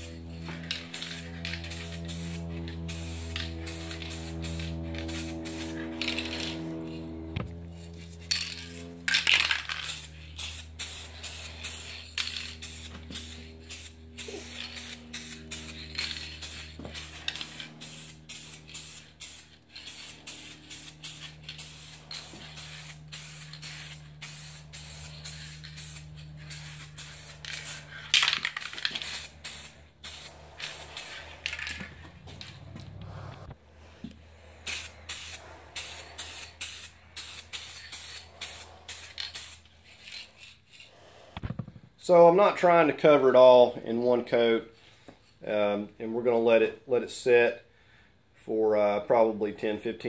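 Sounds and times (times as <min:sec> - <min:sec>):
spray can hissing: 0:00.0 - 0:33.5, 0:34.5 - 0:41.1
steady low hum: 0:00.0 - 0:42.0.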